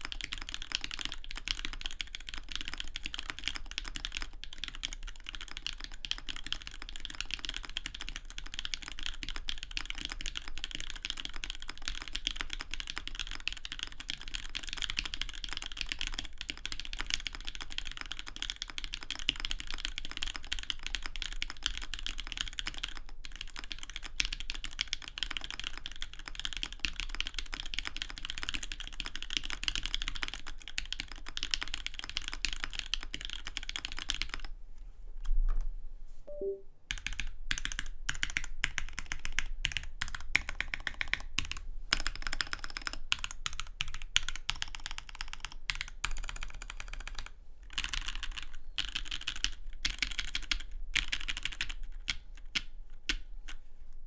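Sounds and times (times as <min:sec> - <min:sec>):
mechanical keyboard typing: 0:00.0 - 0:34.5, 0:36.4 - 0:53.2.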